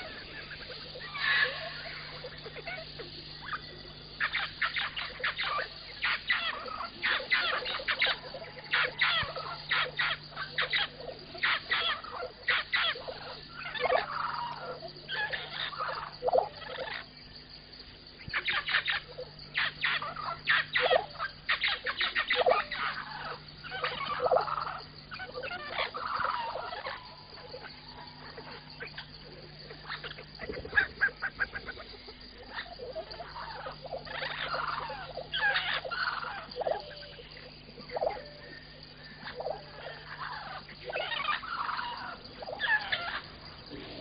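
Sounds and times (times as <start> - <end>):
birds chirping and squawking: 0.0 - 17.5, 18.2 - 44.0
faint low hum: 0.0 - 44.0.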